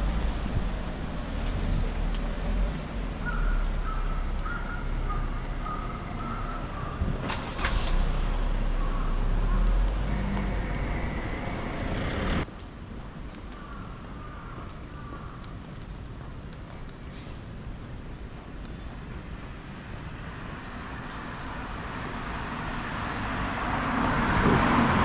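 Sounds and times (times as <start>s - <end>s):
traffic passing rumble: 0.0s - 25.0s.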